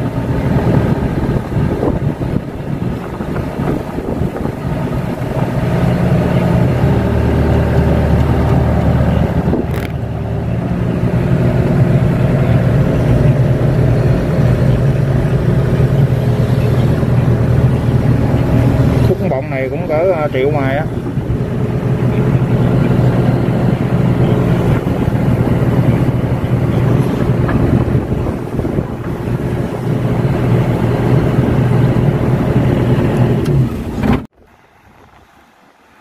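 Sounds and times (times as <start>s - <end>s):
excavator diesel engine under load: 0.0s - 36.0s.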